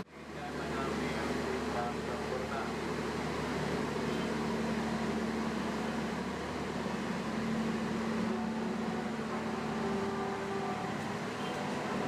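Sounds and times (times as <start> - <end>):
train low mechanical hum: 0.0 - 12.0.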